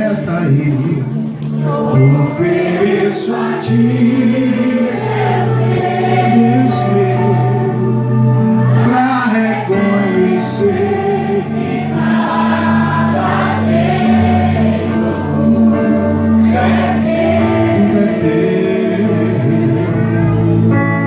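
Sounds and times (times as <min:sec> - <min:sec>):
sustained keyboard chords: 0:00.0 - 0:21.0
choir singing: 0:01.3 - 0:20.8.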